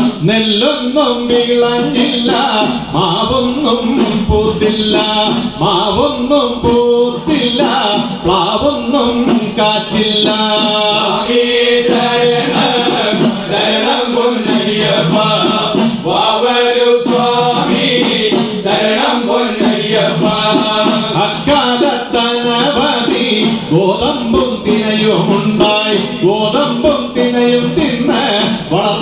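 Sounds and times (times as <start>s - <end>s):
hand drums beating: 0.0s - 29.0s
men chanting devotional song: 0.0s - 29.0s.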